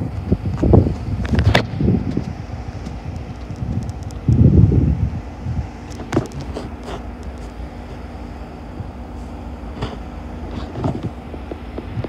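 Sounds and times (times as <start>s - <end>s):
distant diesel locomotives droning: 0.0s - 12.0s
wind rumble on microphone: 0.0s - 12.0s.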